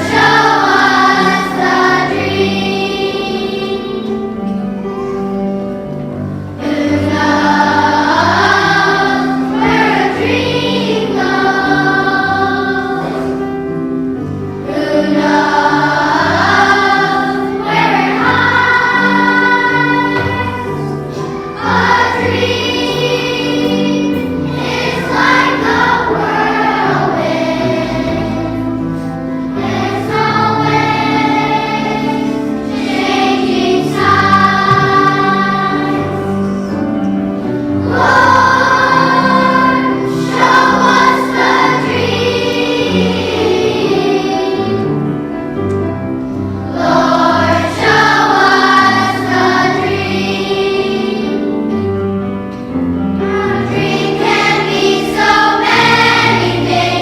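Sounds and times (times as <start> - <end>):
children's choir singing: 0.0 - 57.0
instrumental accompaniment: 0.0 - 57.0.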